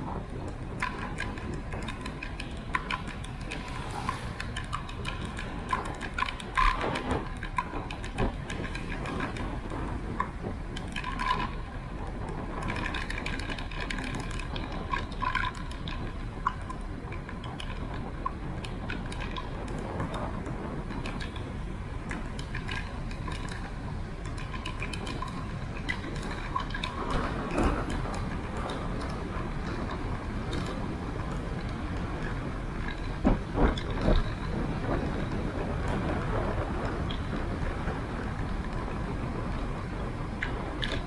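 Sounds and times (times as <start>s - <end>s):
bicycle ticking and rattling: 0.0s - 41.0s
wind and road rumble: 0.0s - 41.0s.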